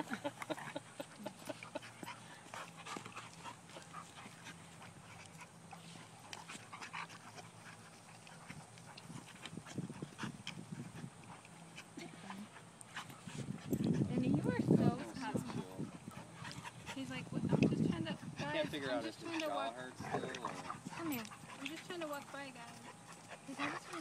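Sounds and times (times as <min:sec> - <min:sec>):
dogs panting: 0:00.0 - 0:24.0
dogs scuffling: 0:01.3 - 0:24.0.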